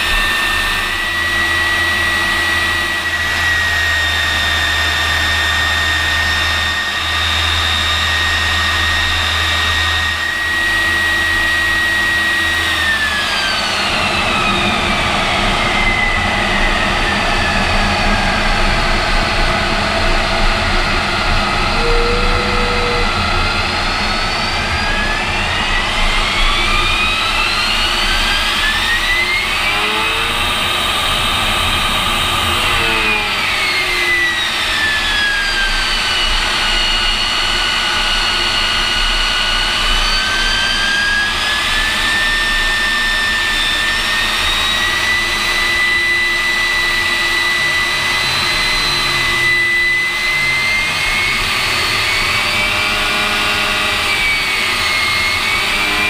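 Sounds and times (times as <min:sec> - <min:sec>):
jet engine roar and whine: 0:00.0 - 0:56.0.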